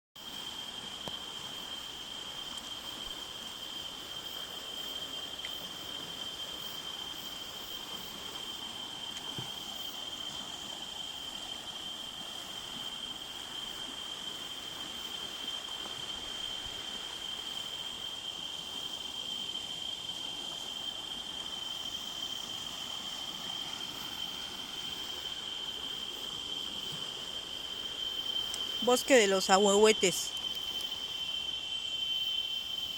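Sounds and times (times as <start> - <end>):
faint outdoor hiss: 0.2 - 32.9
insects trilling: 0.2 - 32.9.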